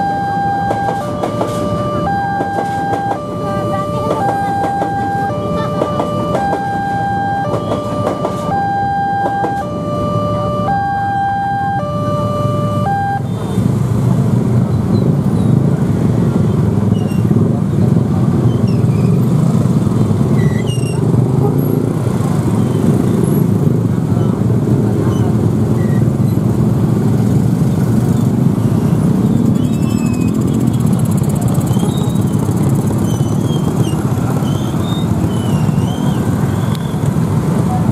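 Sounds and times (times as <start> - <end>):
motorcycle and car engines rumbling: 0.0 - 37.9.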